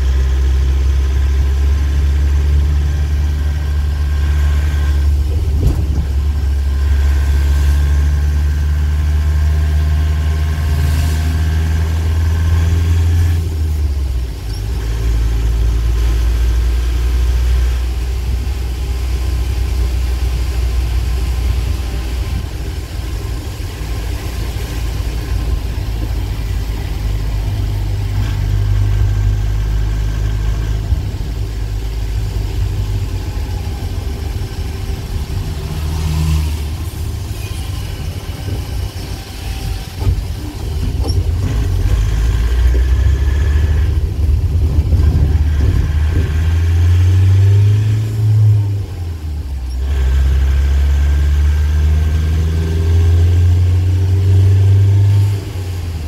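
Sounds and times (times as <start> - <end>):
tyres on wet road: 0.0 - 56.0
vehicle engine drone: 0.0 - 56.0.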